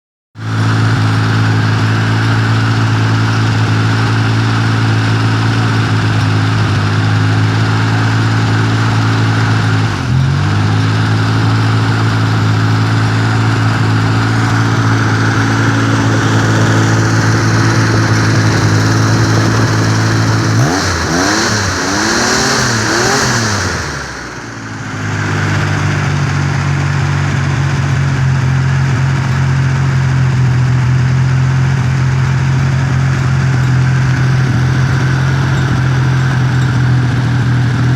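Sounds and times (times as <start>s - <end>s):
car engine running and revving: 0.4s - 37.9s.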